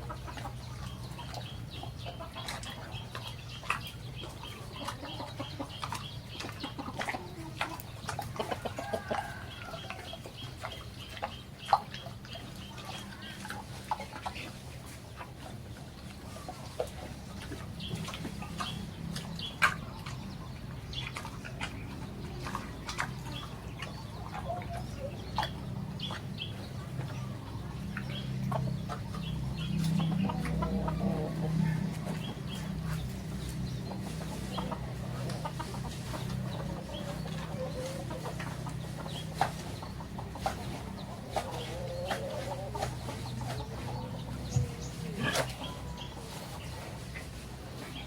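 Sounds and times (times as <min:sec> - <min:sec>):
fowl clucking: 0:00.0 - 0:15.6, 0:16.2 - 0:48.0.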